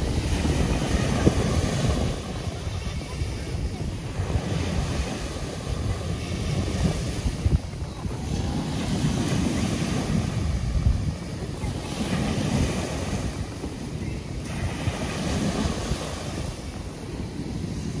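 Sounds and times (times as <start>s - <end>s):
surf washing up a beach: 0.0s - 18.0s
wind rumbling on microphone: 0.0s - 18.0s.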